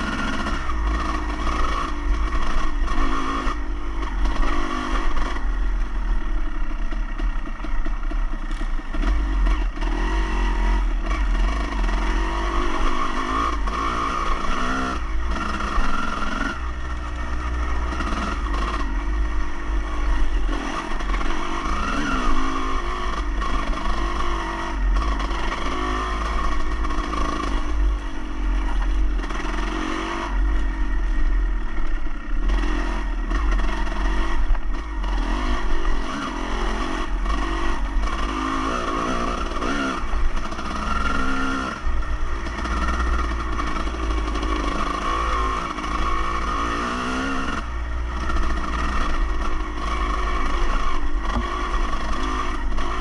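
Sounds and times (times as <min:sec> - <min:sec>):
vehicle engine revving: 0:00.0 - 0:53.0.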